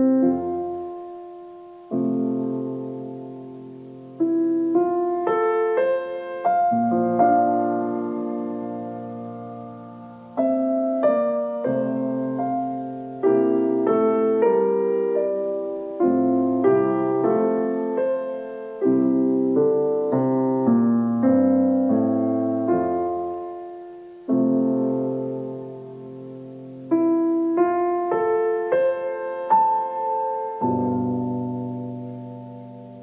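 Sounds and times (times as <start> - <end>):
slow solo piano music: 0.0 - 33.0.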